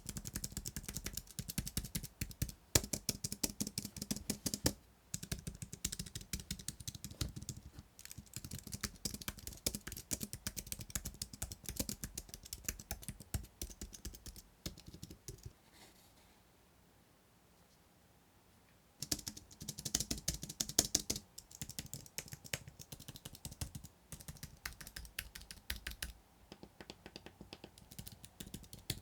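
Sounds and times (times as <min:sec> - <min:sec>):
fast typing on keyboard: 0:00.0 - 0:15.5, 0:19.0 - 0:26.2, 0:27.1 - 0:29.0.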